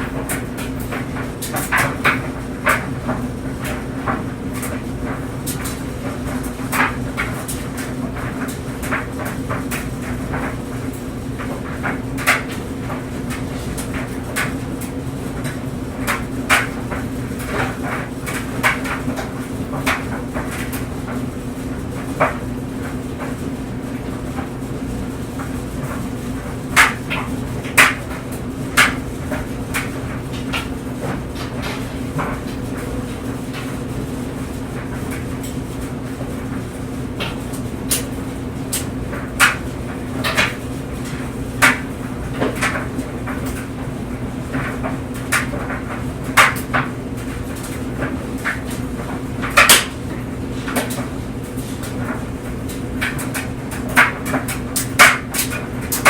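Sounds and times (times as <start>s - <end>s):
clothes dryer humming: 0.0s - 56.0s
clothes knocking in dryer: 0.0s - 56.0s.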